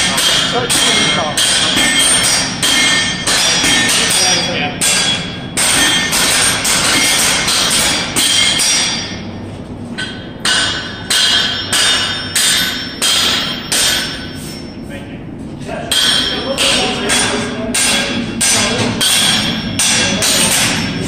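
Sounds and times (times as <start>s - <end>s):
hammer striking iron on anvil: 0.0s - 9.2s, 10.0s - 14.7s, 15.9s - 21.0s.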